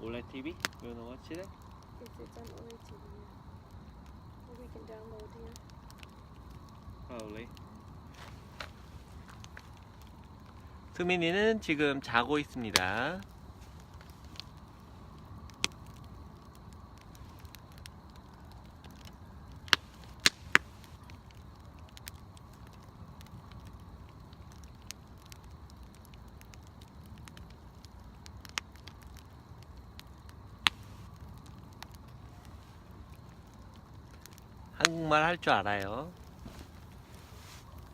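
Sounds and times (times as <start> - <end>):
bonfire crackling pops: 0.0 - 37.9
low steady background noise: 0.0 - 37.9.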